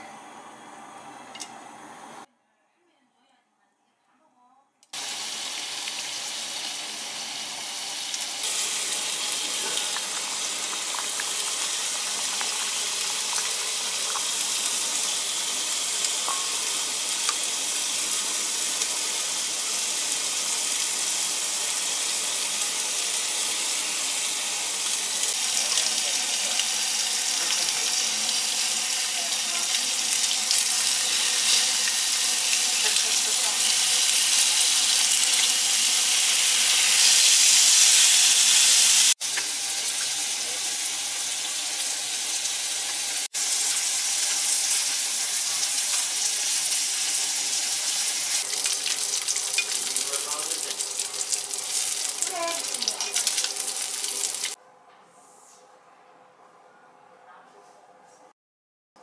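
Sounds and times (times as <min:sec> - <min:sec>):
pork sizzling on a griddle: 0:05.0 - 0:54.6.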